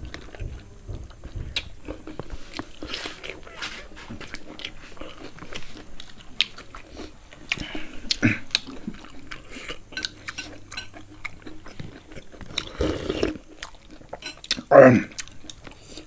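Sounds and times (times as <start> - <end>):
chewing and mouth smacking: 0.0 - 16.0.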